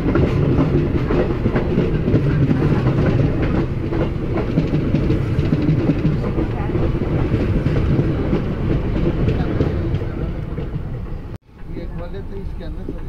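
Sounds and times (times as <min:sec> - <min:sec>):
passing train rumble: 0:00.0 - 0:13.0.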